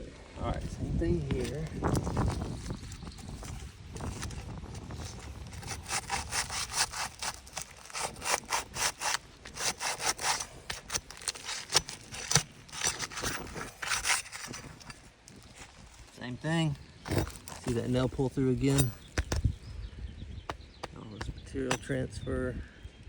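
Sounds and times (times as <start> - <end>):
tool scraping under shingle: 0.7 - 19.7, 20.4 - 22.3.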